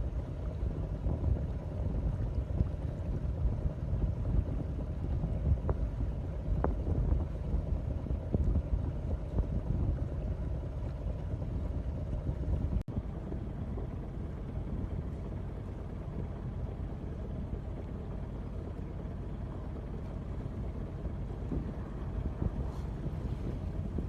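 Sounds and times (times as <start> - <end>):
water noise: 0.0 - 24.0
wind buffeting microphone: 0.0 - 24.0.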